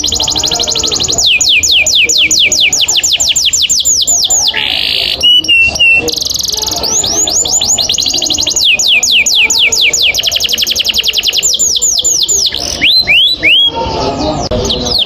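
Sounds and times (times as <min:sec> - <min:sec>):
canary singing trills: 0:00.0 - 0:15.0.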